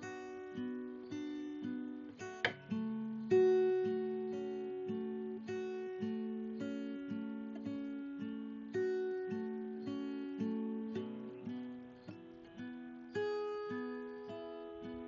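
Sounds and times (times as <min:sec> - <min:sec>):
acoustic guitar picking notes: 0:00.0 - 0:15.0.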